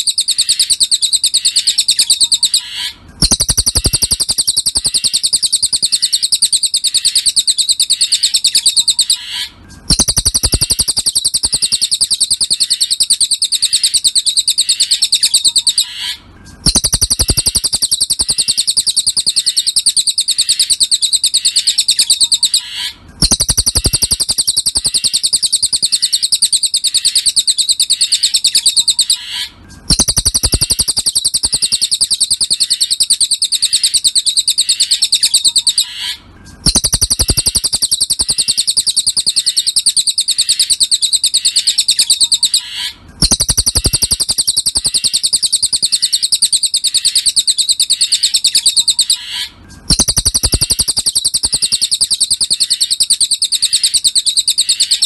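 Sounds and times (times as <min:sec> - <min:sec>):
bird twittering trill: 0:00.0 - 0:55.0.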